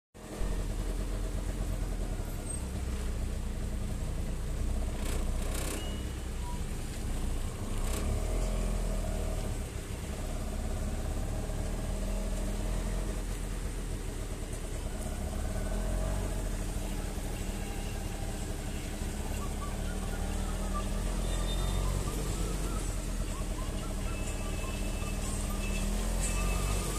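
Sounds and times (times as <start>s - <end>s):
vehicle engine rumbling: 0.2s - 26.9s.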